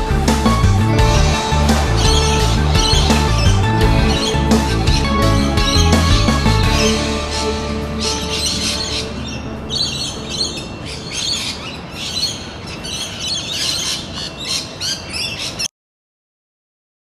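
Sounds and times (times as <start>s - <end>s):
birds chirping: 0.0s - 15.7s.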